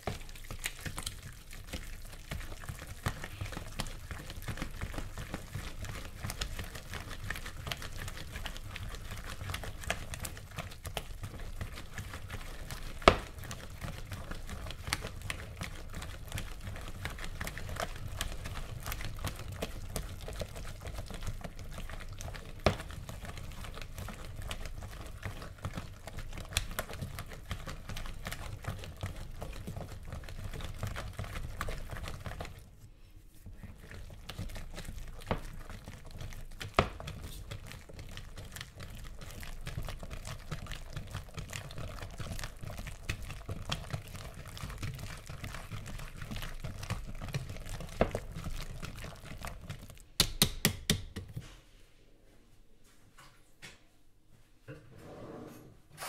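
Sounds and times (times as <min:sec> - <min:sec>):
whisk tapping on bowl: 0:00.0 - 0:32.7, 0:33.5 - 0:51.4
batter whisked by hand in bowl: 0:00.0 - 0:53.2.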